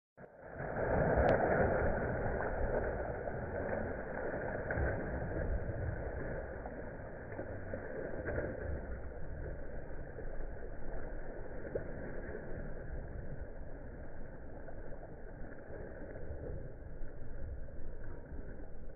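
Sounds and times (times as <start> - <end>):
low rumble: 0.2 - 18.9
dog splashing in water: 0.5 - 18.9.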